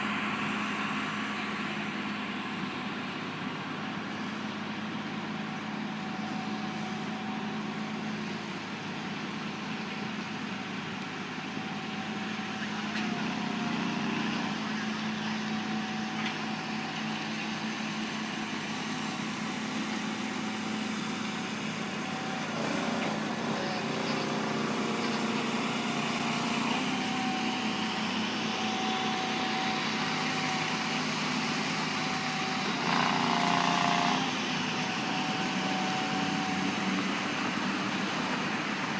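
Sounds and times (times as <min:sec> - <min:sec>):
heavy vehicle engine running: 0:00.0 - 0:38.9.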